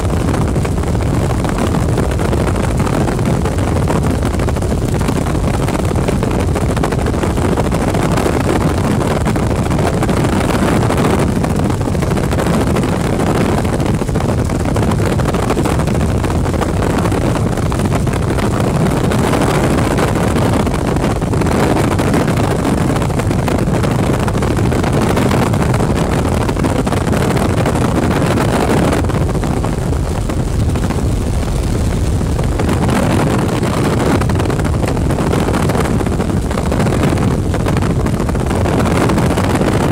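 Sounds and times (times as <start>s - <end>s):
helicopter drone from inside cabin: 0.0s - 39.9s.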